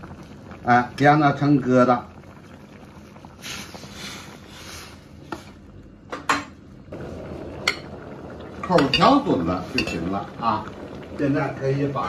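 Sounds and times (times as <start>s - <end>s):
soup bubbling: 0.0s - 12.0s.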